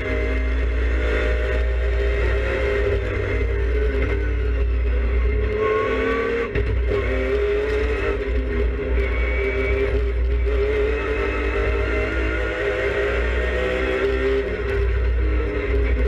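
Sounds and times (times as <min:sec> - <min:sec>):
race car engine: 0:00.0 - 0:16.0.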